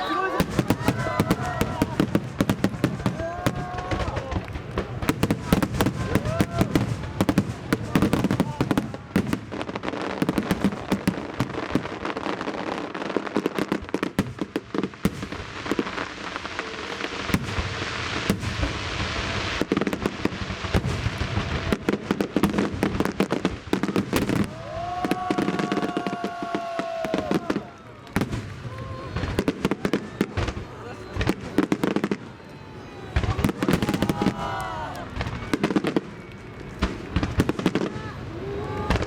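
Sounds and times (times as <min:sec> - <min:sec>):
fireworks hissing: 0:00.0 - 0:32.2
fireworks bangs and crackling: 0:00.0 - 0:39.0.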